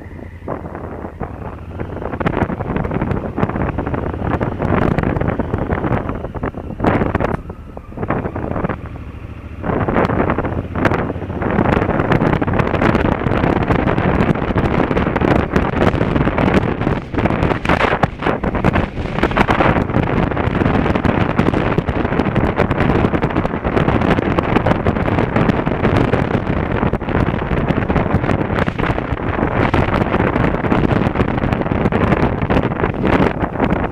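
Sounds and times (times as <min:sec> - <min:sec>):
motorcycle running: 0:00.0 - 0:33.9
wind buffeting microphone: 0:00.0 - 0:33.9.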